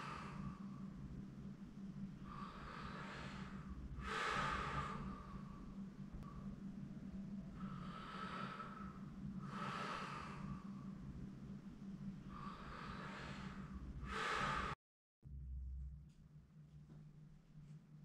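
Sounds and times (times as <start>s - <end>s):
person breathing slowly: 0.0s - 14.8s
steady low hum: 0.0s - 18.0s.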